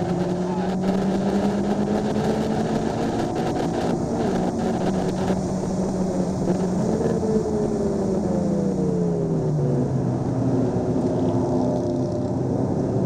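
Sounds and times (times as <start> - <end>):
car engine at full throttle: 0.0 - 13.0
wind and road noise: 0.0 - 13.0.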